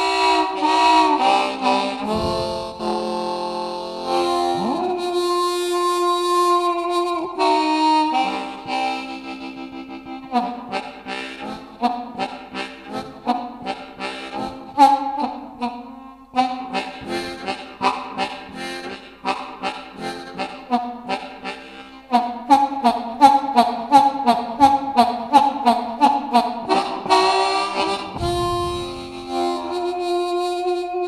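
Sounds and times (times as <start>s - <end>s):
harmonica chugging like a train: 0.0s - 31.0s.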